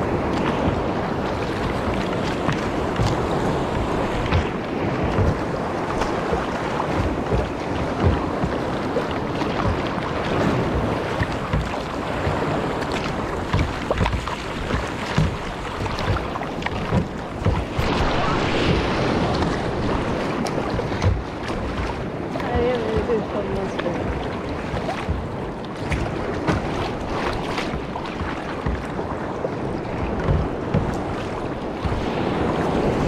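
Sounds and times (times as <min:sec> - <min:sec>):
water slapping kayak hull: 0:00.0 - 0:33.0
waves breaking on rocks: 0:00.0 - 0:33.0
wind buffeting microphone: 0:00.0 - 0:33.0.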